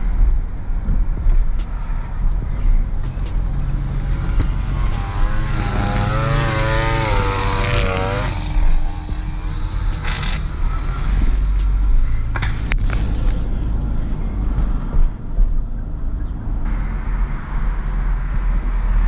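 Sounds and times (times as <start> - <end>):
road and engine rumble: 0.0 - 19.0
wavering engine-like tone: 0.0 - 19.0.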